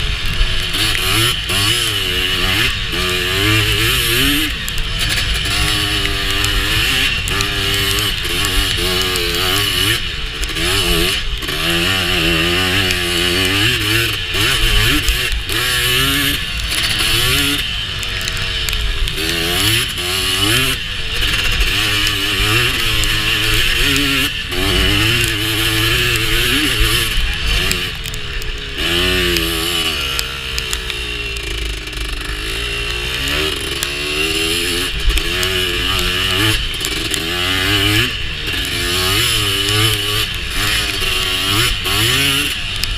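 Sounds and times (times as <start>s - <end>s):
two-stroke quad engine revving: 0.0s - 42.9s.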